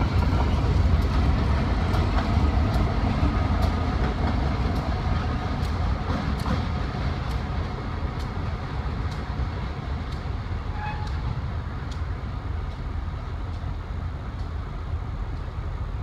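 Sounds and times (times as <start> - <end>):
freight train rumbling: 0.0 - 16.0
wheels clicking on rails: 0.0 - 16.0.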